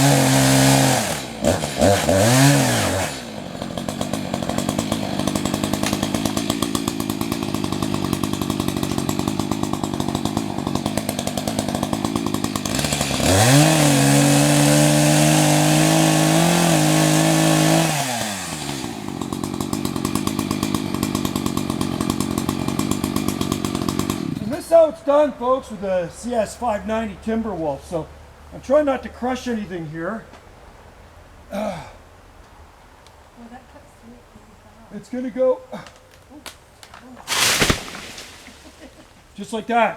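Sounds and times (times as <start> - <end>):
chainsaw idling and revving: 0.0 - 29.6, 37.2 - 39.9.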